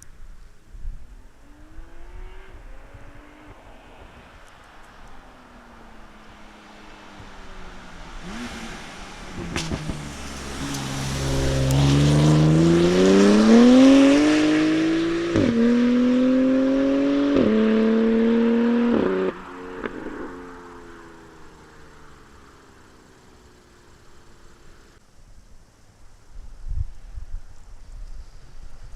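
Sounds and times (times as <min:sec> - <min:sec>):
car exhaust accelerating: 0:00.8 - 0:25.0.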